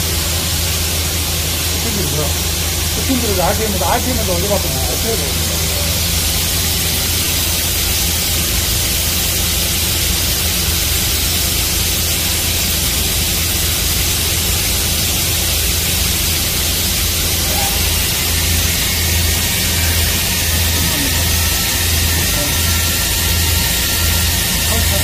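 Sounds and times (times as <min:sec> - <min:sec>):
low machine hum: 0:00.0 - 0:25.0
machining center hiss: 0:00.0 - 0:25.0.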